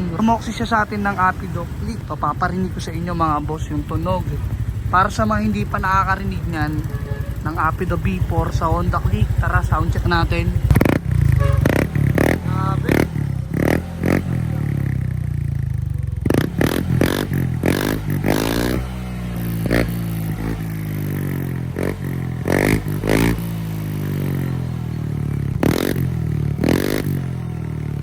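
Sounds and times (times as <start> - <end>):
scooter engine idling and revving: 0.0 - 28.0.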